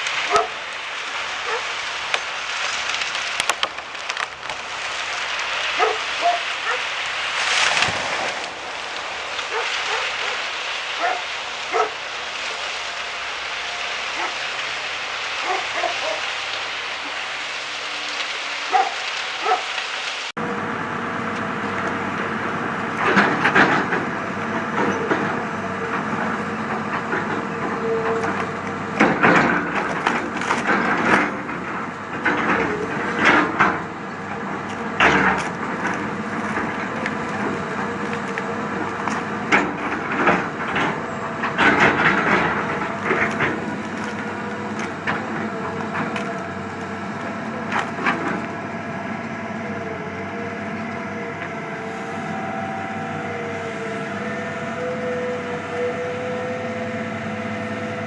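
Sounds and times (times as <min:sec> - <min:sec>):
wood cracking and splintering: 0:00.0 - 0:20.3, 0:21.4 - 0:50.1
heavy machine engine running: 0:00.0 - 0:58.0.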